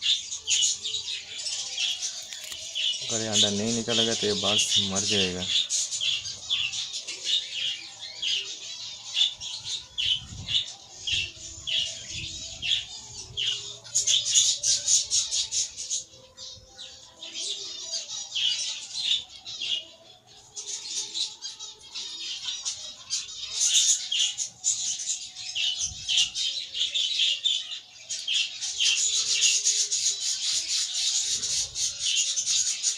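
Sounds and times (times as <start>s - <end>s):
budgerigars chirping and squawking: 0.0s - 32.9s.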